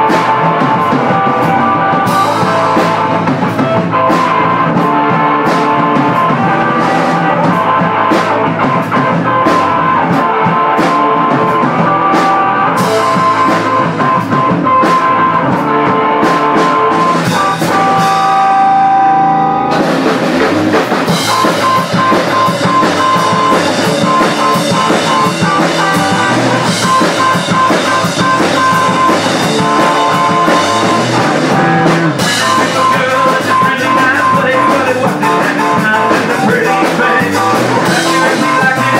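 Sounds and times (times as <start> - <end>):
drum kit with cymbals: 0.0 - 38.9
electric guitar: 0.0 - 38.9.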